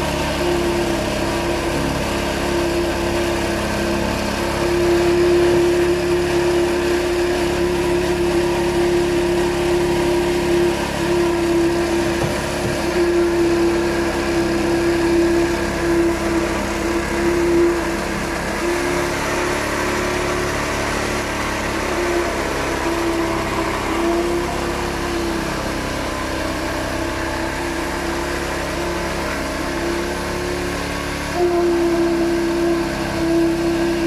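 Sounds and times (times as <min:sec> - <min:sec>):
small petrol engine running: 0:00.0 - 0:34.0.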